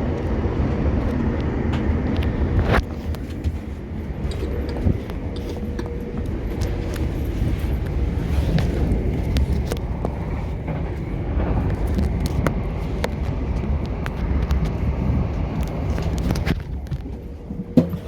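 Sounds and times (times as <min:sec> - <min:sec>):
train clicks and knocks: 0:00.0 - 0:18.0
train interior rumble: 0:00.0 - 0:18.0.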